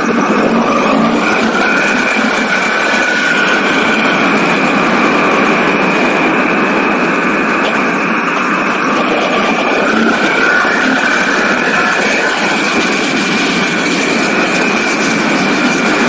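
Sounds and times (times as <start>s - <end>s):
motorcycle engine: 0.0s - 16.0s
steady high whistle: 0.0s - 16.0s
wind rushing over microphone: 0.0s - 16.0s.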